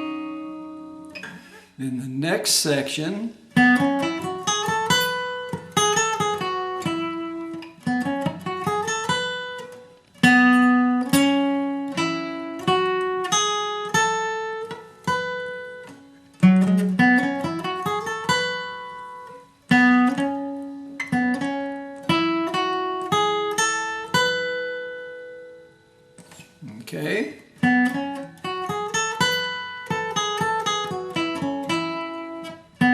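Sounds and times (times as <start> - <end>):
acoustic guitar lead: 0.0 - 32.9.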